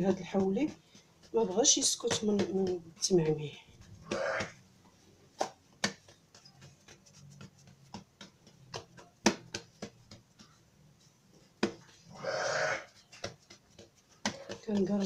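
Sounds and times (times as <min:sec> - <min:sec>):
hands patting dough: 0:00.0 - 0:12.2, 0:12.8 - 0:15.0.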